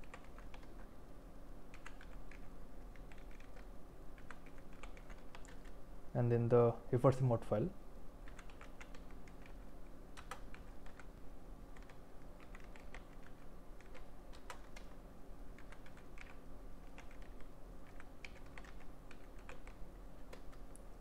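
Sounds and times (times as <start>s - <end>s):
typing on computer keyboard: 0.0s - 0.9s, 1.7s - 5.8s, 8.2s - 20.8s
faint low hum: 0.0s - 21.0s.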